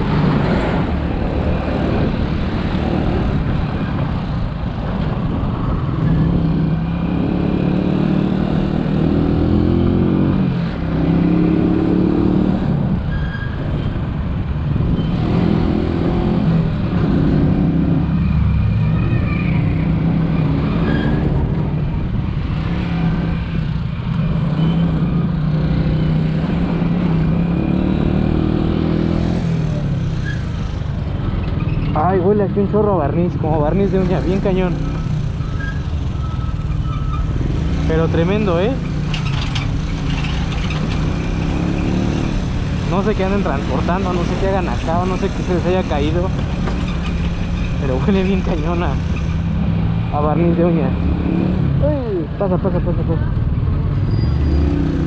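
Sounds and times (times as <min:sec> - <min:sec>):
motorcycle engine revving: 0:05.5 - 0:13.0, 0:14.8 - 0:32.4, 0:33.6 - 0:52.3, 0:52.9 - 0:55.0.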